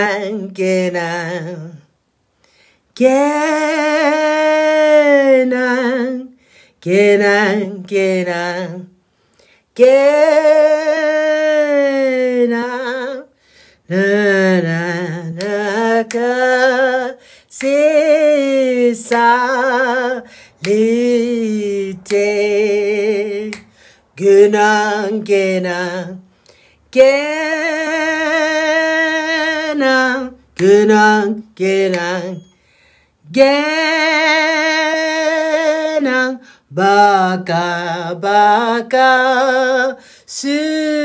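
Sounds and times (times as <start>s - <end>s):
woman singing unaccompanied: 0.0s - 2.0s, 2.9s - 9.0s, 9.6s - 41.0s.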